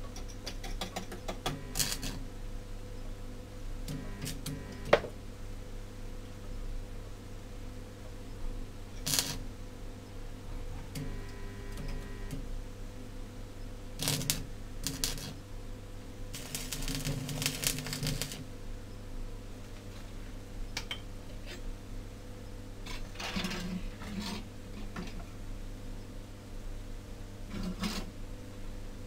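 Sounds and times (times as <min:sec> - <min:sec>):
steady low hum: 0:01.3 - 0:29.0.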